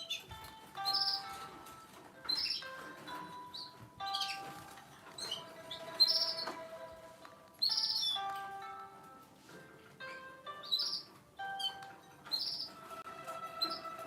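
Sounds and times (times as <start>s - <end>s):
mobile phone ringtone: 0.0s - 14.0s.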